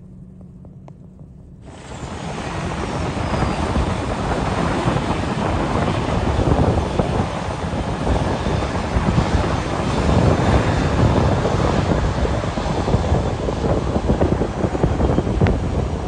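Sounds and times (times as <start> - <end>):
wind buffeting microphone: 0.0 - 16.0
airliner jet noise: 1.6 - 16.0.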